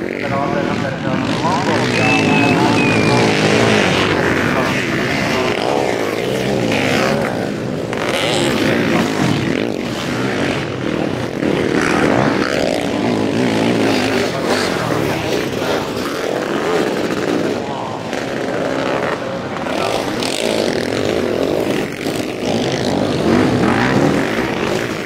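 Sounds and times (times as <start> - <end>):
racing motorcycle engines revving: 0.0 - 25.0.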